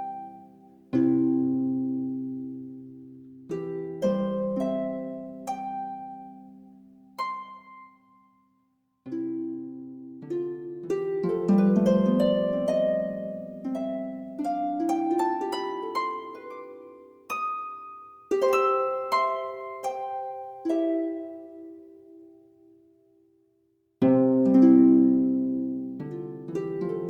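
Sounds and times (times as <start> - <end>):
plucked instrumental music: 0.0 - 8.3, 9.1 - 22.4, 24.0 - 27.0.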